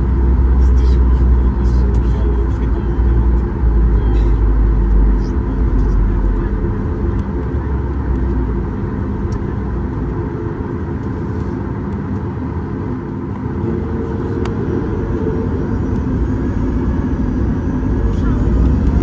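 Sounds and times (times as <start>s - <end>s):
jet engines in cabin: 0.0s - 19.0s
low hums: 0.0s - 19.0s.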